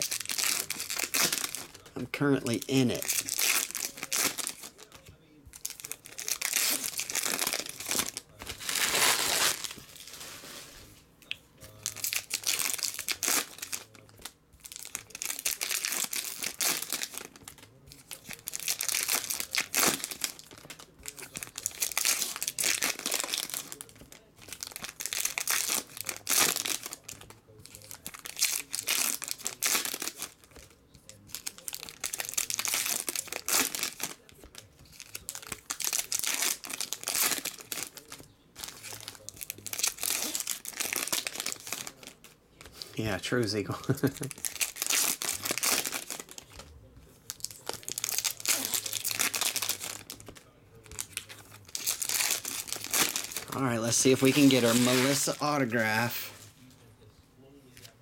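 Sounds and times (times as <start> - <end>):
card wrappers tearing and crinkling: 0.0 - 11.0, 11.7 - 56.5.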